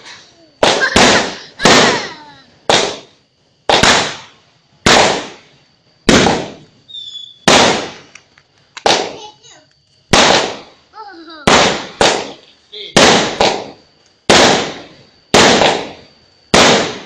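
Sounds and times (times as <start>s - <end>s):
fireworks bangs echoing: 0.0s - 8.2s, 8.8s - 9.5s, 10.1s - 10.8s, 11.4s - 17.0s.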